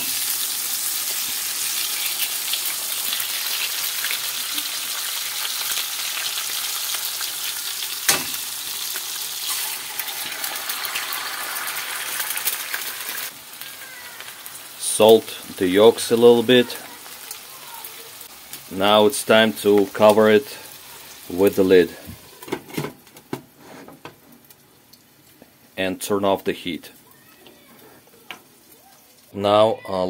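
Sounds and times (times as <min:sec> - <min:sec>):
food sizzling in frying pan: 0:00.0 - 0:22.9, 0:26.4 - 0:29.4.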